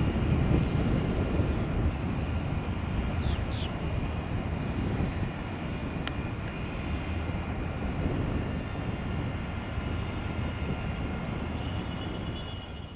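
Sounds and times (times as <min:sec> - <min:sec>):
high turbine whine: 0:00.0 - 0:12.9
jet engines rumbling: 0:00.0 - 0:12.9.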